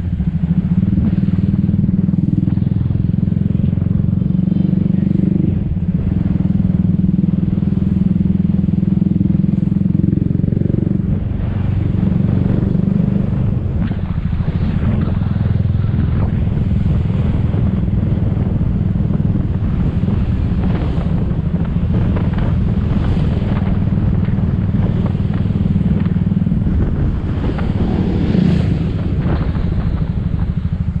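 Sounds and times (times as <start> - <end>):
low wind rumble on microphone: 0.0 - 31.0.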